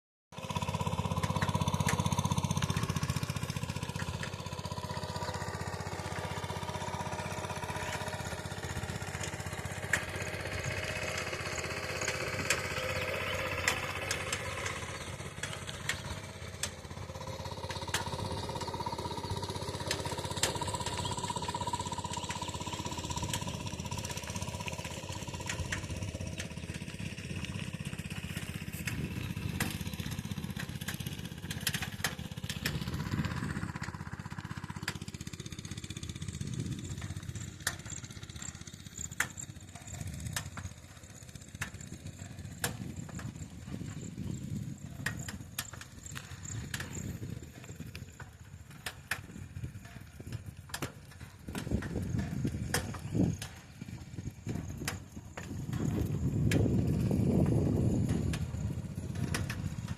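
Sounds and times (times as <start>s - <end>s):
engine rumbling: 0.3s - 59.9s.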